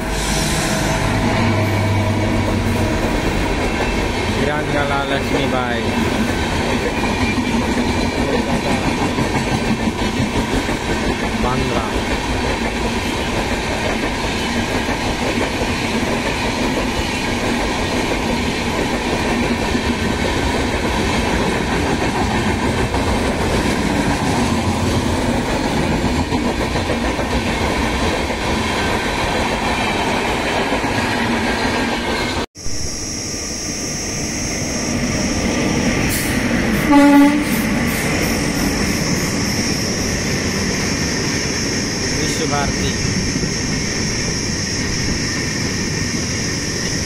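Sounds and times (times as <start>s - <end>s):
train wheels rumbling on rails: 0.0s - 32.5s, 34.9s - 47.0s.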